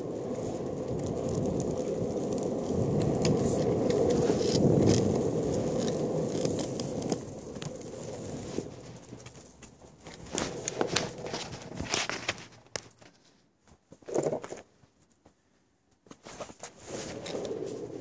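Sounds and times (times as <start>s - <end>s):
longboard wheels rolling on asphalt: 0.0s - 13.4s, 14.0s - 14.7s, 16.1s - 18.0s.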